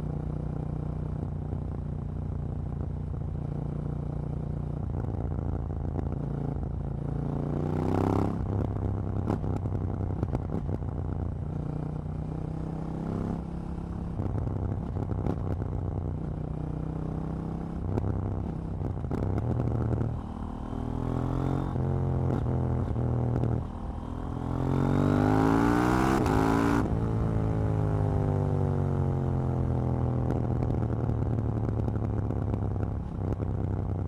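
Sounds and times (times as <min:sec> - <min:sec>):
motorcycle engine and exhaust: 0:00.0 - 0:34.0.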